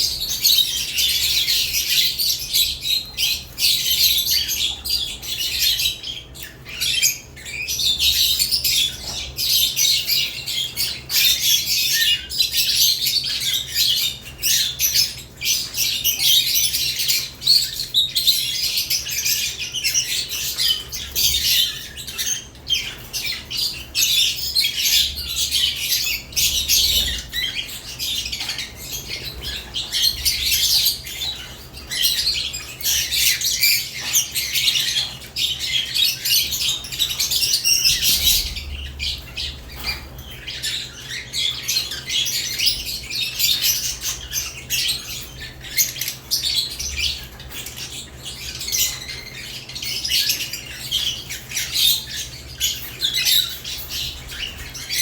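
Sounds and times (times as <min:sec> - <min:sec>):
lovebirds chattering: 0:00.0 - 0:55.0.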